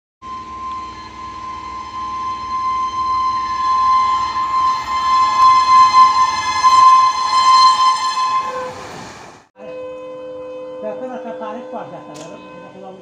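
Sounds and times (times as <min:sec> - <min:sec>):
locomotive air horn blast: 0:00.2 - 0:13.0
low train rumble: 0:00.2 - 0:13.0.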